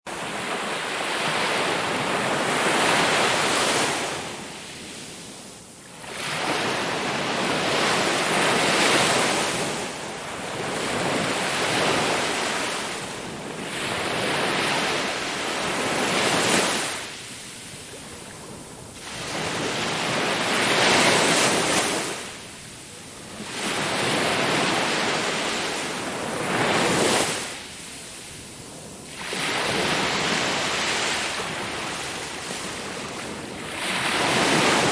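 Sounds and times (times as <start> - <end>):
sea waves breaking: 0.1 - 5.3, 5.9 - 34.9.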